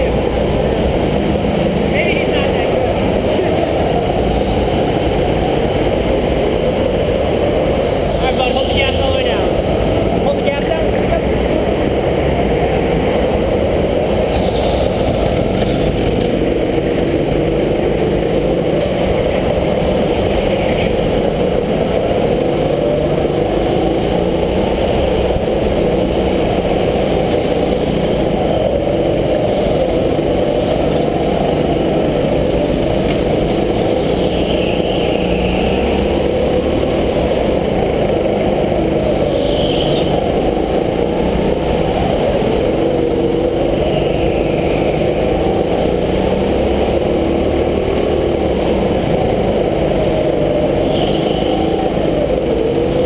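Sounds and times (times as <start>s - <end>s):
go-kart engines running hard: 0.0s - 53.0s.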